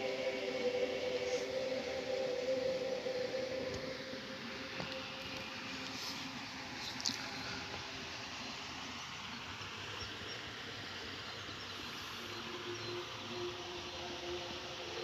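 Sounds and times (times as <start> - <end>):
faint steady hum: 0.0 - 15.0
outdoor background noise: 0.0 - 15.0.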